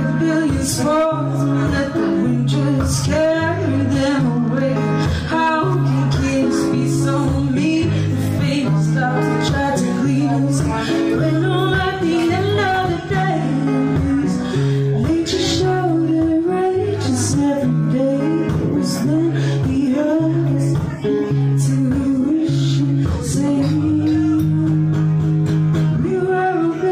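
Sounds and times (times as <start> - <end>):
acoustic guitar strumming: 0.0 - 26.9
woman singing: 0.0 - 26.9.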